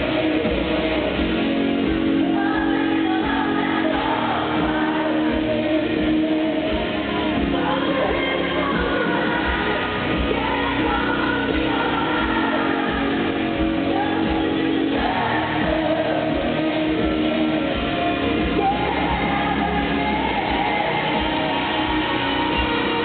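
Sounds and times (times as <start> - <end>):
crowd shouting and whooping: 0.0 - 23.0
live country-pop band: 0.0 - 23.0
woman singing lead: 0.0 - 23.0.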